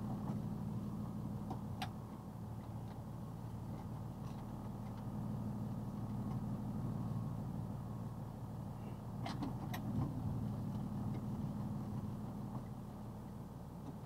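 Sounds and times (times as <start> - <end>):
truck engine humming: 0.0 - 14.0.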